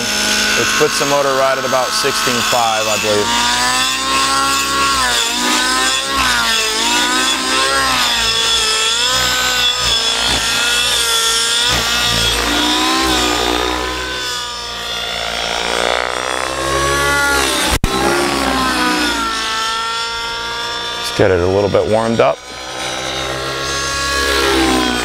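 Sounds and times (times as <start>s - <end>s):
model helicopter engine: 0.0s - 25.0s.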